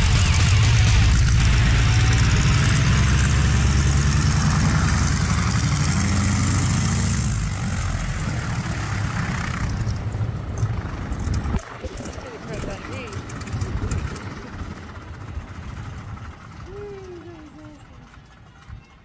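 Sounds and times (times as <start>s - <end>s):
propeller plane engine idling: 0.0s - 19.0s.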